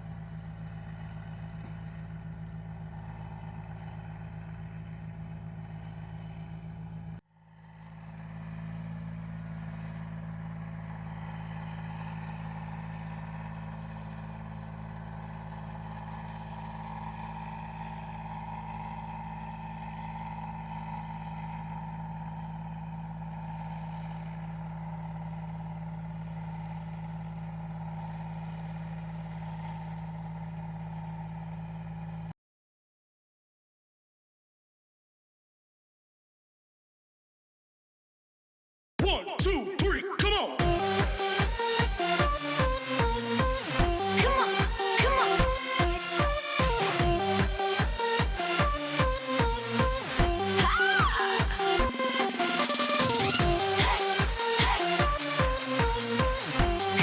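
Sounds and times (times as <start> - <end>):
combine harvester engine drone: 0.0 - 32.3, 40.6 - 57.0.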